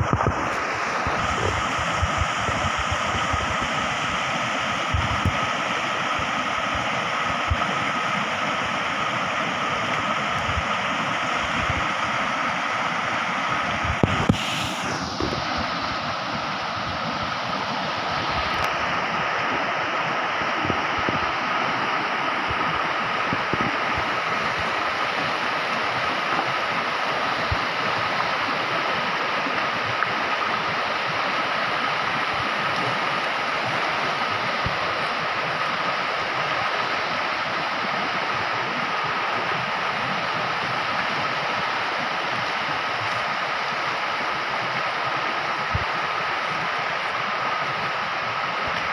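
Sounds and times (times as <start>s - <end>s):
stream flowing over rocks: 0.0s - 48.9s.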